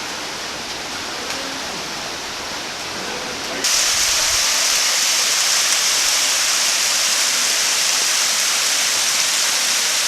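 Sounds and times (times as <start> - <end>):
water rushing down a cascade: 0.0 - 10.0.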